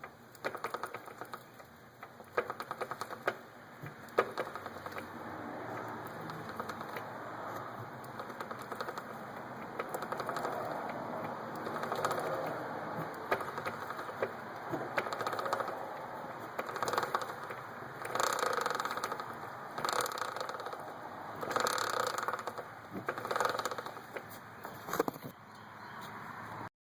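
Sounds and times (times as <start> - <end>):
motorcycle drive chain ticking: 0.0 - 24.4.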